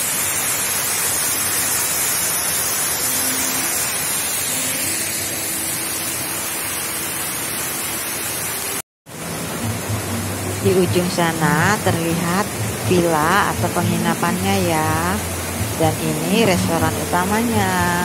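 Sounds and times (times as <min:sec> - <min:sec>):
hiss of light drizzle: 0:00.0 - 0:18.0
waterfall rushing: 0:00.0 - 0:18.0.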